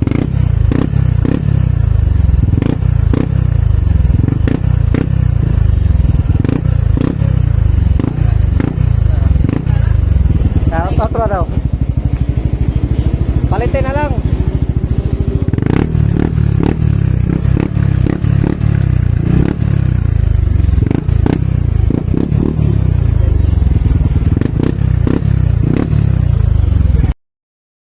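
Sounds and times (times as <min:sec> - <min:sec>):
scooter engine with popping exhaust: 0:00.0 - 0:27.2.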